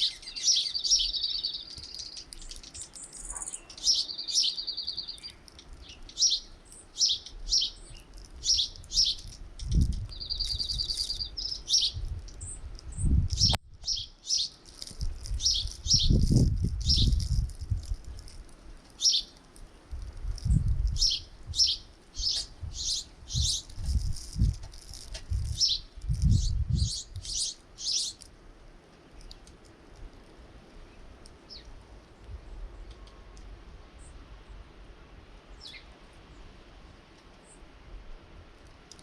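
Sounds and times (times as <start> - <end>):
small birds chirping: 0.0 - 18.3, 18.9 - 28.3, 30.8 - 33.4, 35.5 - 36.5.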